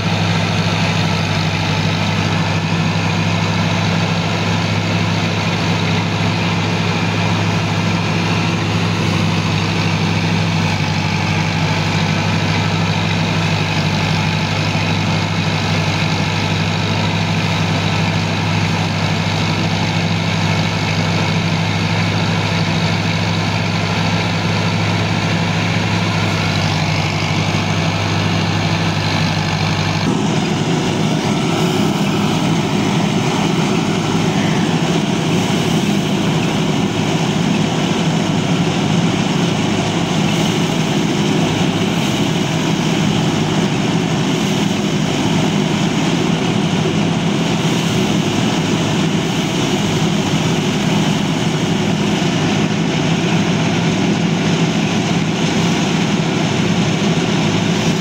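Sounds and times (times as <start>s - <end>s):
blower rushing noise: 0.0s - 58.0s
thresher machine hum: 0.0s - 58.0s.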